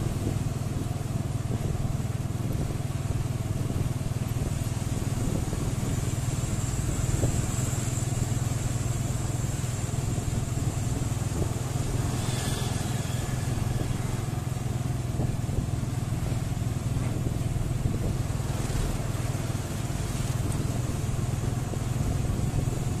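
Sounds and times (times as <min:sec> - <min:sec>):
road noise: 0:00.0 - 0:23.0
vehicle engine drone: 0:00.0 - 0:23.0
wind noise: 0:00.0 - 0:23.0.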